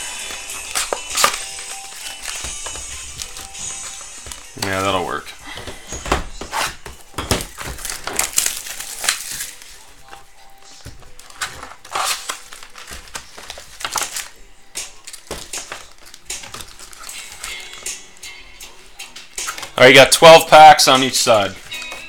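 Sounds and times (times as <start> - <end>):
foil packs crinkling: 0.0 - 22.0.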